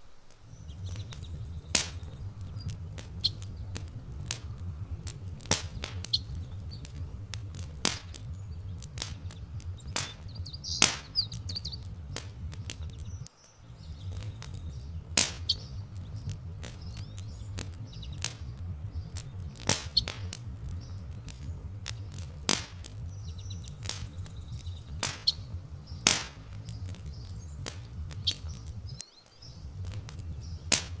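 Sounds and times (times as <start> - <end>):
small birds chirping: 0.0 - 31.0
wood fire crackling and popping: 0.0 - 31.0.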